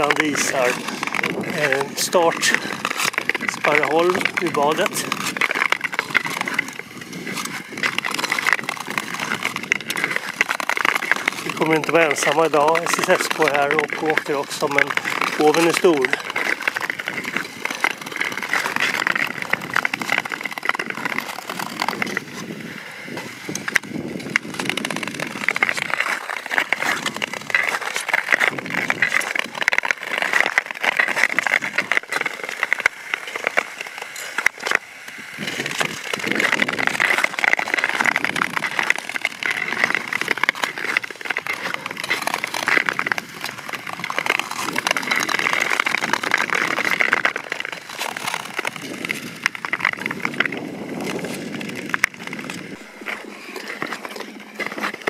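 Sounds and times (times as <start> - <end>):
ice crackling: 0.0 - 55.0
skate blades scraping on ice: 0.0 - 55.0.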